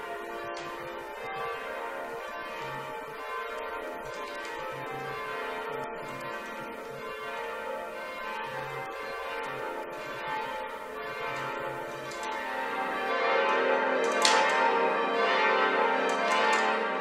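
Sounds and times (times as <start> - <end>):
church bells change ringing: 0.0 - 17.0.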